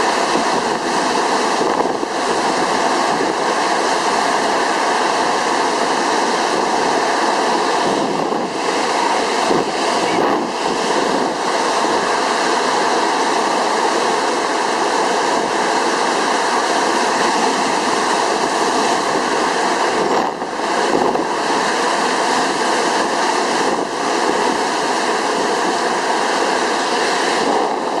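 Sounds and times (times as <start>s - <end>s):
strong wind buffeting microphone: 0.0s - 28.0s.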